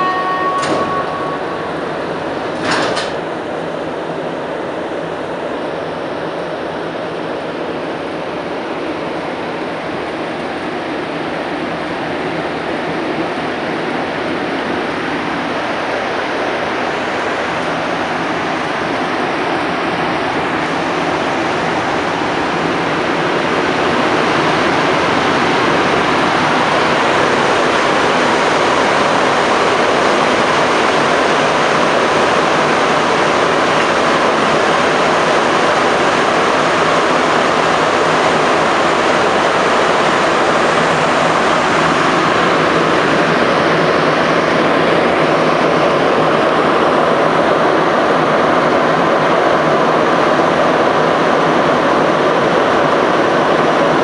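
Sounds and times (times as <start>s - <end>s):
train running noise inside car: 0.0s - 54.0s.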